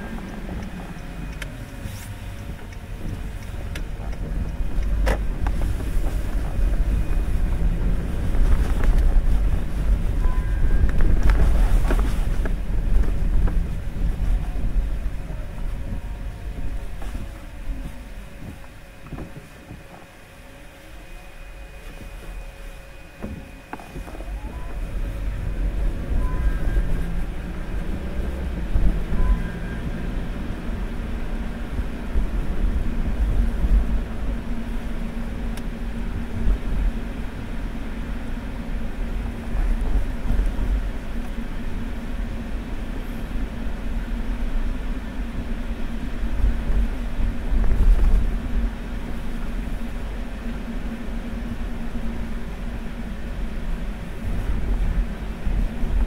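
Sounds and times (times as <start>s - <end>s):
car driving on wet road: 0.0s - 19.9s, 22.0s - 56.0s.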